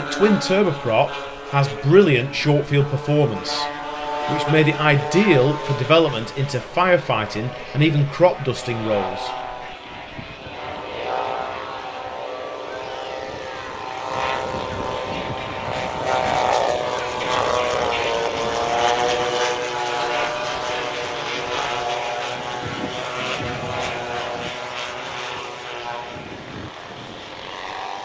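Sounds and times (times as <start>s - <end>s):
model plane engines buzzing: 0.0s - 28.0s.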